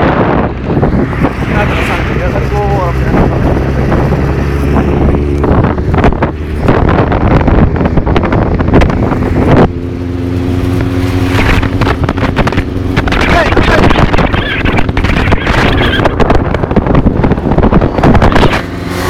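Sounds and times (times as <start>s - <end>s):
wind buffeting microphone: 0.0s - 19.0s
motorcycle engine running: 2.8s - 19.0s.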